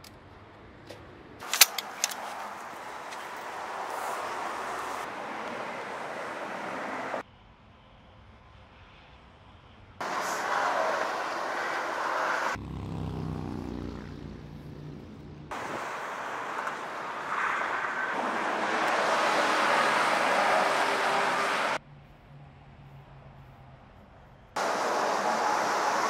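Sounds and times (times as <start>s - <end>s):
engine hum: 0.1s - 8.2s, 9.1s - 26.0s
cars passing: 1.4s - 7.2s, 10.0s - 26.0s.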